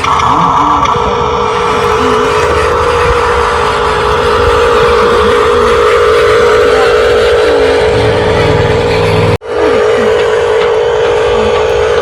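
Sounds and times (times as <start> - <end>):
deep rumble: 0.0 - 12.0
toy vehicle engine-like drone: 0.0 - 12.0.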